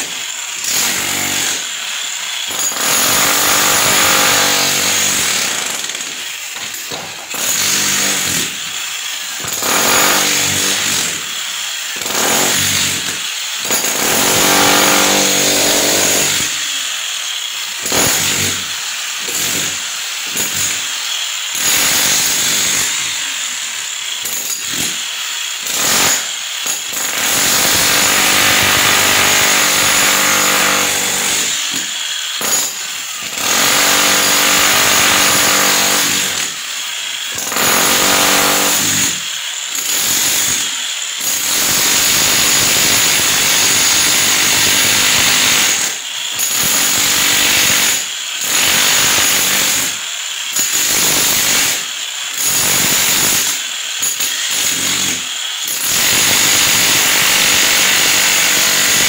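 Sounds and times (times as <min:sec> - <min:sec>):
handheld power tool running: 0:00.0 - 0:59.0.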